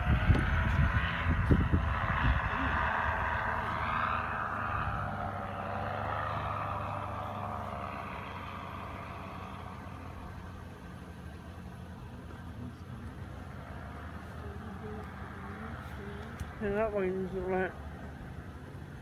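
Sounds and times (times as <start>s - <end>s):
car engine idling: 0.0s - 19.0s
propeller plane droning: 0.0s - 19.0s.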